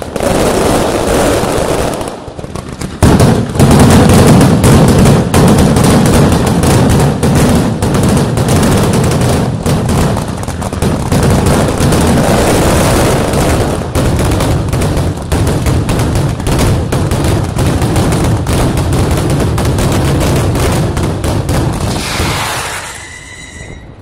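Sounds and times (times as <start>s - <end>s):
firecracker bangs: 0.0s - 24.0s.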